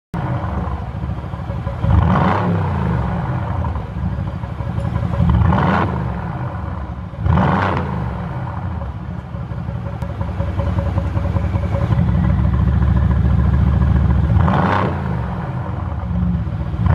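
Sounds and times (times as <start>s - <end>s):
car engine idling and revving: 0.2s - 16.9s.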